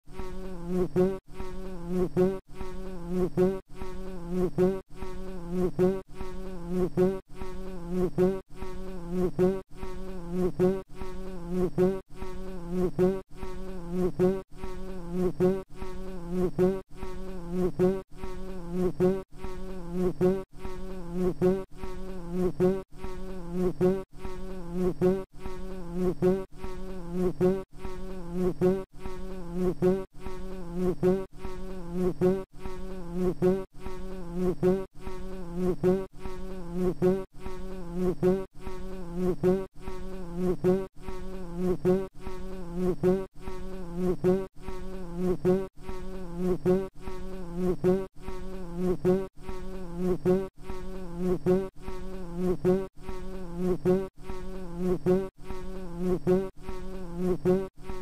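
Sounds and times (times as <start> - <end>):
fly buzzing: 0.0 - 58.0.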